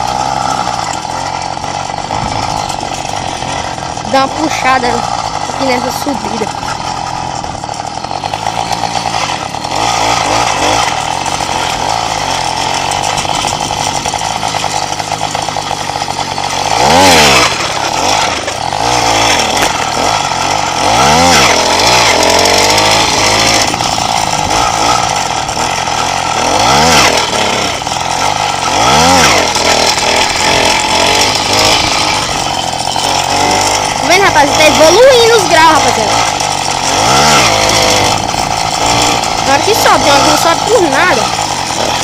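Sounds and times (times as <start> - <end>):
small motorbike engine revving: 0.0 - 42.0.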